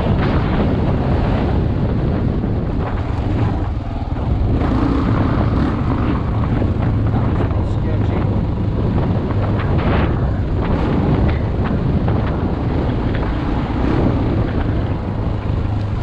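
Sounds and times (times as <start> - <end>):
heavy wind noise: 0.0 - 16.0
motorcycle engine running: 0.0 - 16.0.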